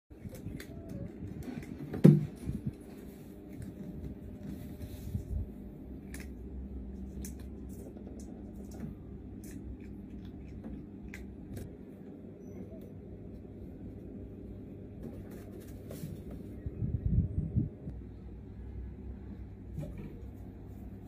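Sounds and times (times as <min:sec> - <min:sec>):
low steady rumble: 0:00.1 - 0:21.0.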